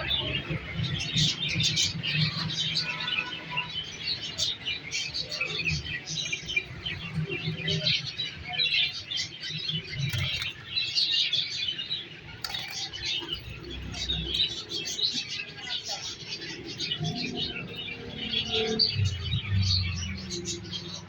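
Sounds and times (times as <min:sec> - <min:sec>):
parrots chirping and chattering: 0:00.0 - 0:21.0.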